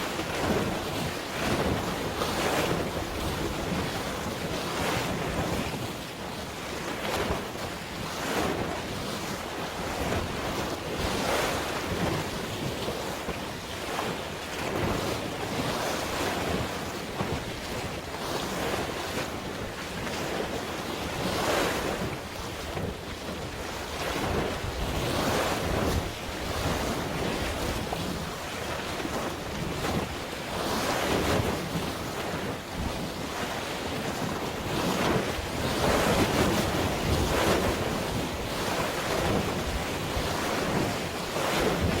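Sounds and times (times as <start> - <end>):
wind buffeting microphone: 0.0 - 6.1, 6.8 - 42.0
sea waves washing in: 0.0 - 42.0.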